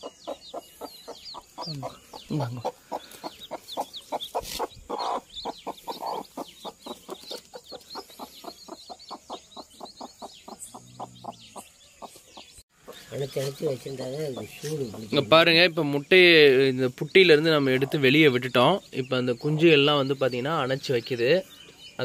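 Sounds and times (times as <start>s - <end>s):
hen clucking rapidly: 0.0s - 21.5s
chicks peeping: 0.0s - 22.0s.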